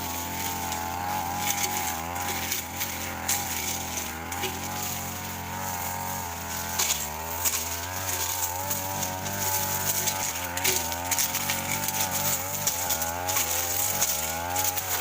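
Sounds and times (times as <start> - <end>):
blade cracking on sticks: 0.0 - 15.0
blade cutting grass and scrub: 0.0 - 15.0
brush cutter engine at high revs: 0.0 - 15.0.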